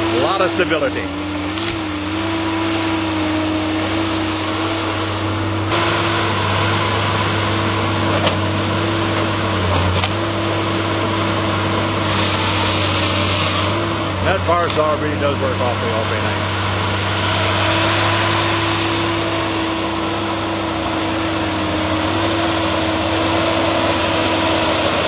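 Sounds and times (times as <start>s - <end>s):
heavy machine engine and hydraulics: 0.0s - 25.0s
saw cutting tree: 0.0s - 25.0s.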